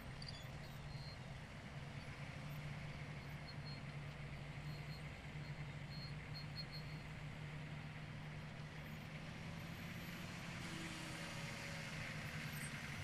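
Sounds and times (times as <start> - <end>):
truck engines low drone: 0.0 - 13.0.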